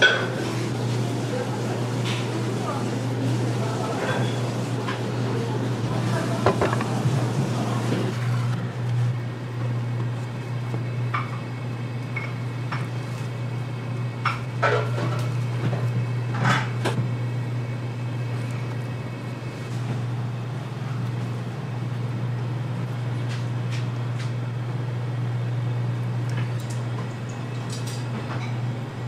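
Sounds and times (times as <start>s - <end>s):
low hum of kitchen machinery: 0.0s - 29.0s.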